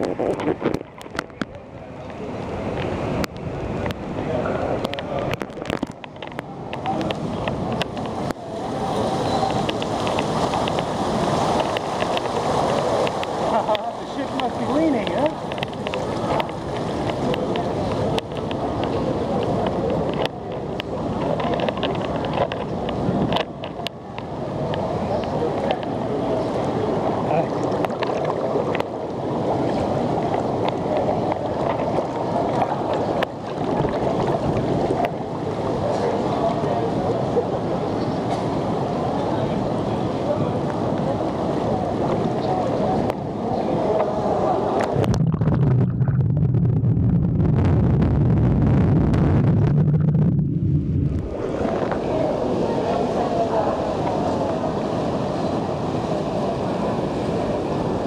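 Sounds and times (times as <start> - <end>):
hot tub water churning and bubbling: 0.0 - 58.0
wind blowing across microphone: 0.0 - 58.0.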